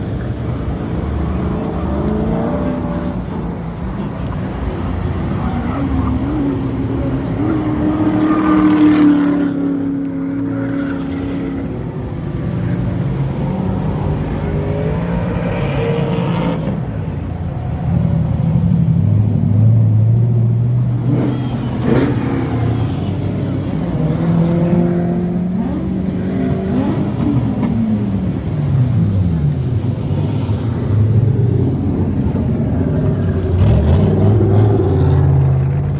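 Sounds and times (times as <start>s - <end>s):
car engines revving: 0.0s - 35.9s.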